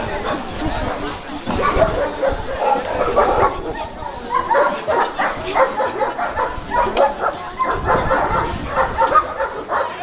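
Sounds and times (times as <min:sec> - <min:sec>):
dogs barking: 0:00.1 - 0:10.0.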